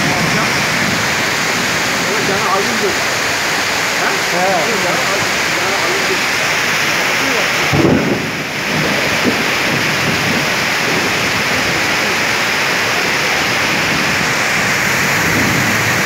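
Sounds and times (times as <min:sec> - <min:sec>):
heavy rain on wet road: 0:00.0 - 0:16.0.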